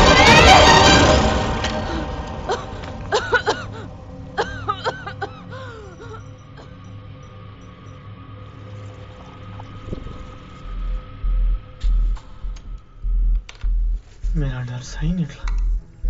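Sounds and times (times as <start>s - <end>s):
film score music: 0.0s - 16.0s
steady low hum: 0.9s - 16.0s.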